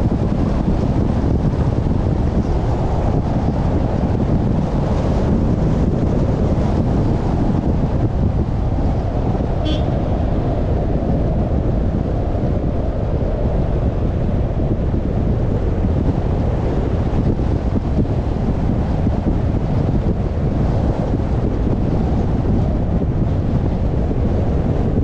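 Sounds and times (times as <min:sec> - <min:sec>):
car rumbling: 0:00.0 - 0:25.0
wind buffeting microphone: 0:00.0 - 0:25.0.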